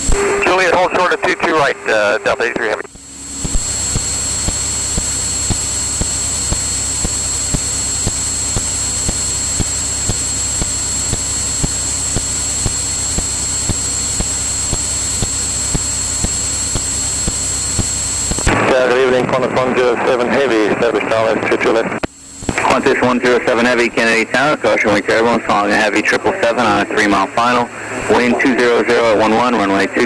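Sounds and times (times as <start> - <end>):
aircraft engine drone through headset: 0.0 - 30.0.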